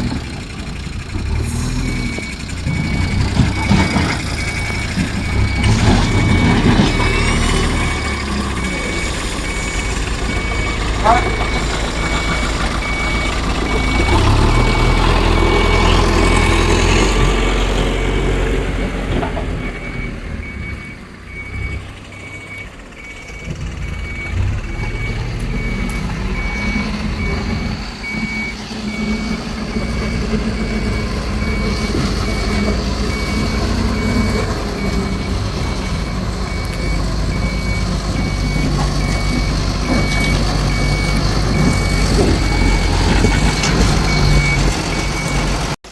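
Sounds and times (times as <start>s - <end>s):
diesel engine under load: 0.0s - 45.9s
reversing alarm beeping: 0.1s - 45.8s.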